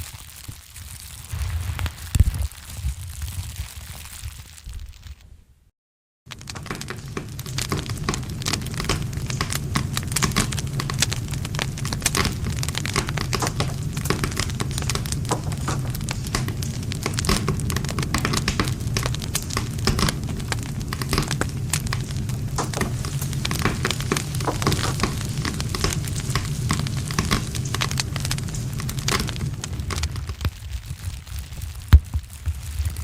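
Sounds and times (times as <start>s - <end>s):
campfire burning crackling: 0.0s - 5.4s, 6.3s - 33.0s.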